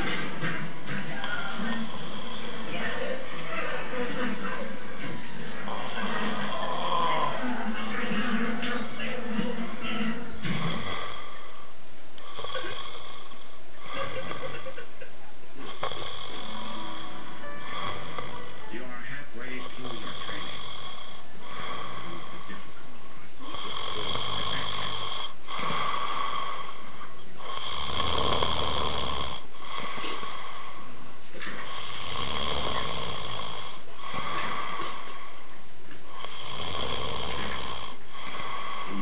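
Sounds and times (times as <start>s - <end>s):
person snoring: 0.0s - 3.3s, 5.6s - 14.8s, 15.6s - 18.8s, 19.5s - 22.6s, 23.4s - 30.9s, 31.6s - 35.5s, 36.1s - 39.0s.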